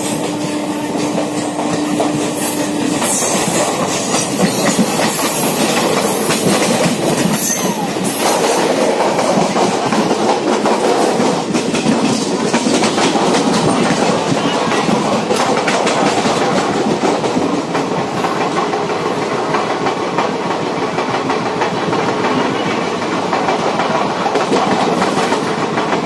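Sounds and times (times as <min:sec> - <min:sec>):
train coaches rushing past: 0:00.0 - 0:26.0
wheels clacking over rail joints: 0:00.0 - 0:26.0.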